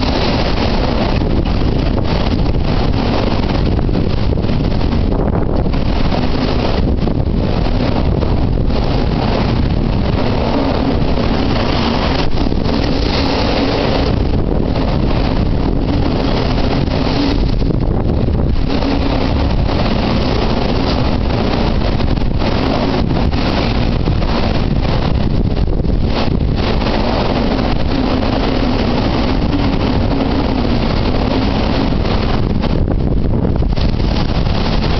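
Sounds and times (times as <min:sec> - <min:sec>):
storm wind roaring on microphone: 0:00.0 - 0:34.9.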